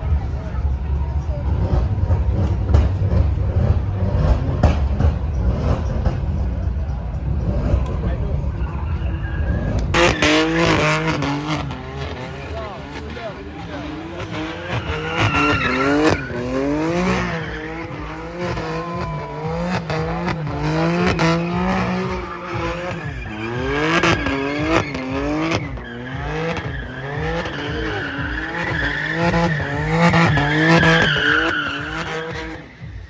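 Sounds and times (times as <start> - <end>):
car engine revving: 0.0 - 33.0
tyres squealing and skidding: 0.0 - 33.0.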